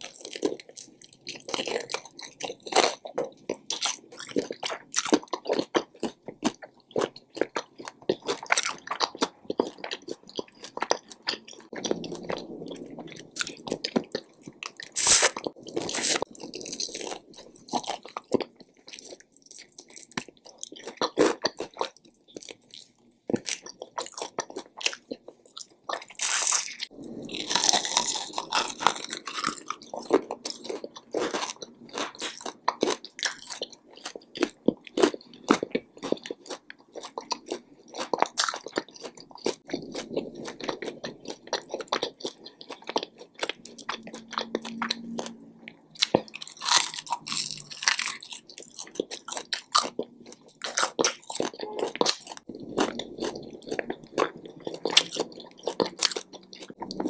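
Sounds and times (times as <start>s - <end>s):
chewing and biting fried chicken: 0.0s - 57.0s.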